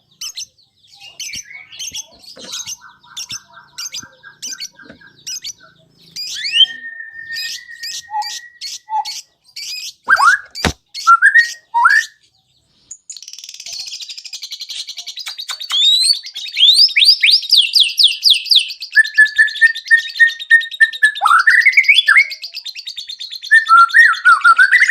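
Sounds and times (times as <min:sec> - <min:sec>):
songbird singing varied song: 0:00.0 - 0:24.9.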